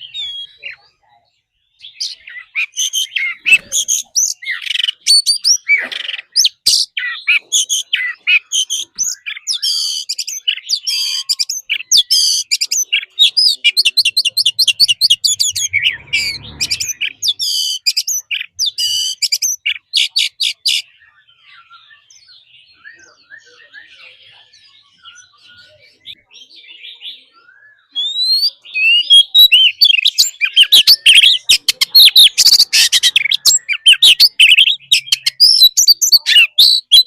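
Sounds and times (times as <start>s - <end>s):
magpie-robin singing: 0.0s - 37.0s.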